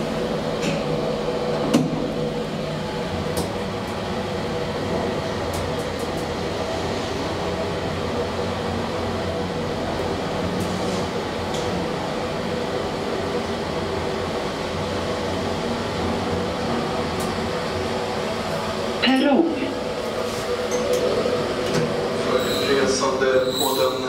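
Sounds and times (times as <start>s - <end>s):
elevator ride hum and rumble: 0.0s - 24.0s.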